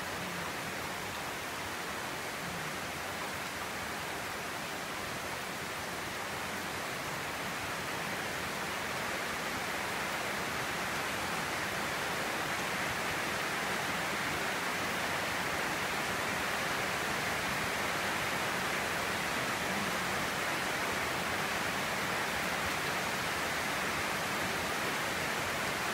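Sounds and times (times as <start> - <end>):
rain falling on roof and trees: 0.0 - 25.9.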